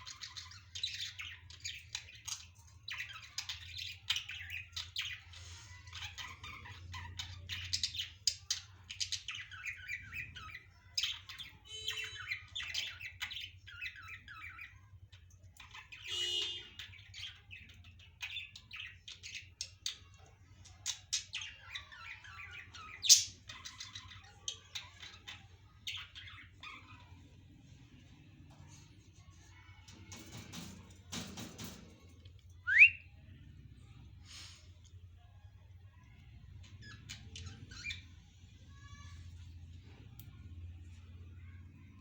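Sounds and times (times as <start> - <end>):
budgerigars chirping and squawking: 0.0 - 33.2, 35.9 - 42.0.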